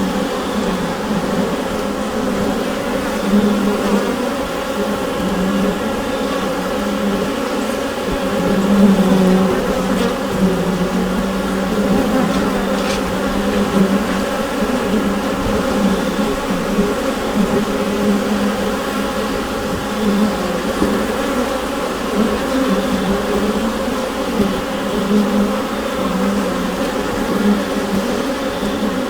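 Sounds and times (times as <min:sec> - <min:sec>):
bees buzzing in hive: 0:00.0 - 0:29.0.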